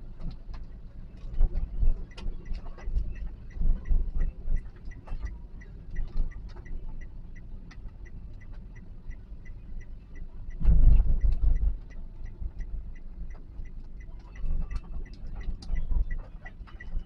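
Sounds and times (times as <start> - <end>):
car engine rumble: 0.0 - 17.0
road noise inside car: 0.0 - 17.0
car indicator clicking: 0.2 - 17.0.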